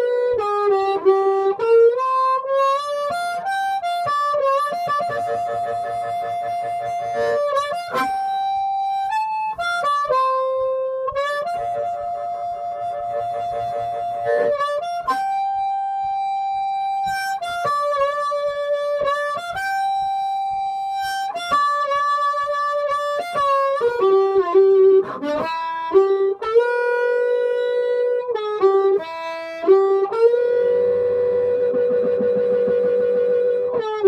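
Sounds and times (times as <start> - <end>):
harmonica playing: 0.0 - 34.0.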